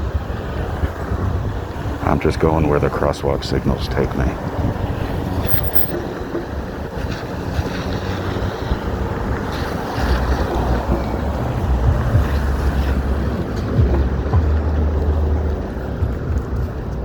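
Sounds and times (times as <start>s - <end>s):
city street traffic: 0.0s - 17.0s
wind buffeting microphone: 0.0s - 17.0s.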